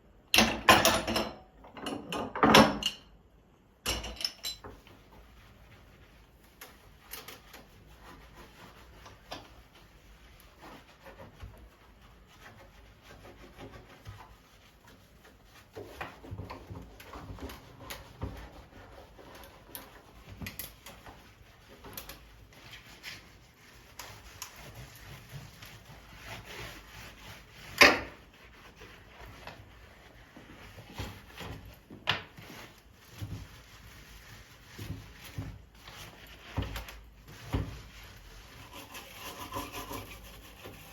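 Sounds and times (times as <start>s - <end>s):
scrubbing on wood: 4.8s - 40.9s.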